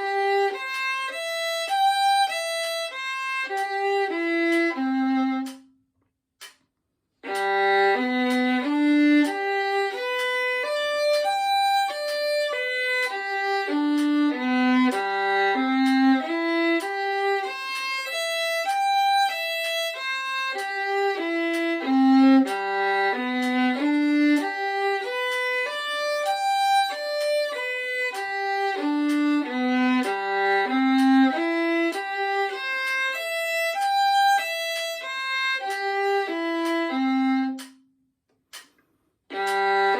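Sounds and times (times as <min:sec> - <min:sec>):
solo violin arpeggios: 0:00.0 - 0:05.7, 0:07.2 - 0:37.7, 0:39.3 - 0:39.9.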